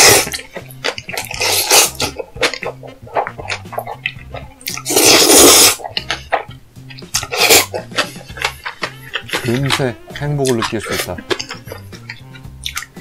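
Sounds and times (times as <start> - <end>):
noodles slurped: 0.0 - 13.0
quiet background music: 0.0 - 13.0
chewing clicks and lip smacks: 0.2 - 4.9, 5.8 - 9.8, 10.4 - 13.0.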